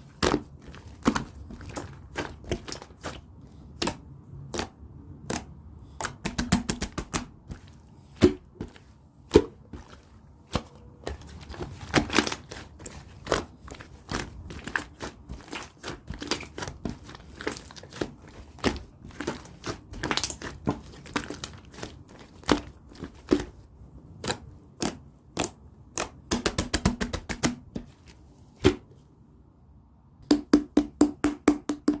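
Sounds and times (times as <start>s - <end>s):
slime being kneaded: 0.0s - 28.9s.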